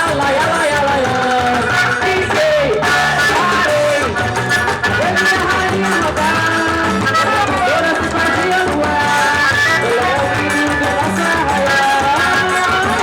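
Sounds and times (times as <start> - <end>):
loud dance music with drums: 0.0 - 13.0.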